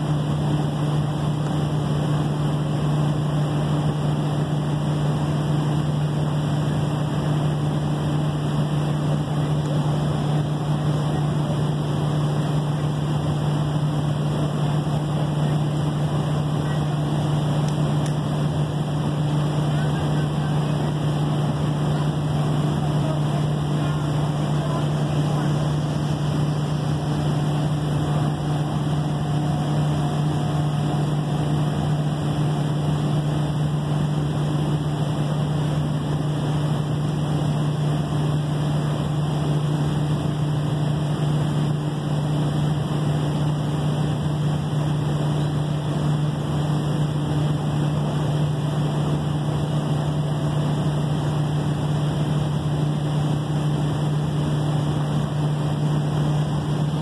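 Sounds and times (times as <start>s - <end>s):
ship machinery drone: 0.0s - 57.0s.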